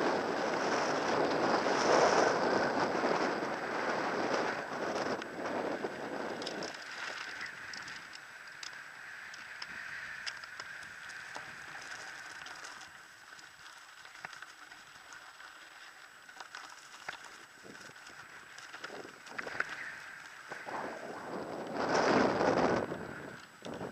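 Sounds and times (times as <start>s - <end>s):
bike clicks and rattles: 0.0s - 23.9s
bike tyres on gravel: 0.0s - 23.9s.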